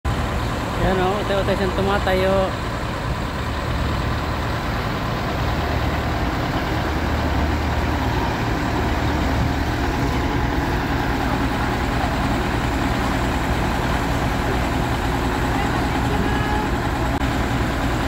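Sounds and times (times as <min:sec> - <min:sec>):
diesel engine humming: 0:00.0 - 0:18.0.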